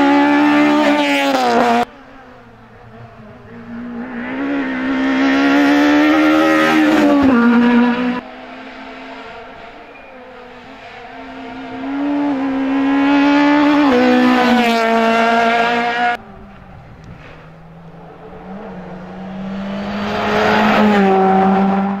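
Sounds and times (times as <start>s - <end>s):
rally car approaching at full throttle: 0.0s - 22.0s
rally car engine approaching: 0.0s - 22.0s.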